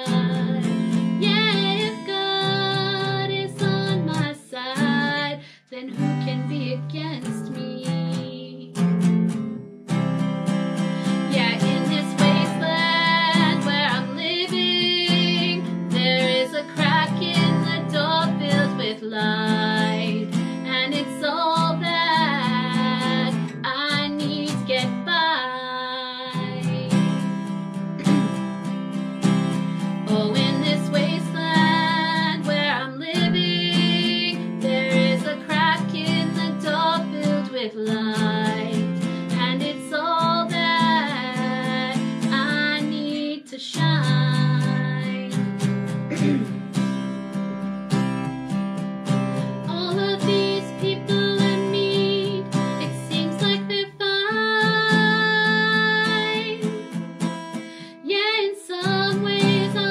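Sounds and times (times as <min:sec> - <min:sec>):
woman singing slow song: 0:00.0 - 0:08.9, 0:11.0 - 0:27.3, 0:29.8 - 0:46.4, 0:49.6 - 0:57.1, 0:57.8 - 0:59.9
strummed acoustic guitar: 0:00.0 - 0:58.1, 0:58.7 - 0:59.9.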